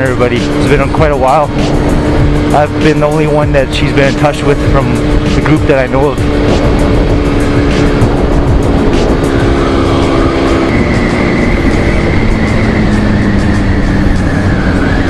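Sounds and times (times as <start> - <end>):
motorcycle engine cruising: 0.0 - 15.0
wind rush on microphone: 0.0 - 15.0.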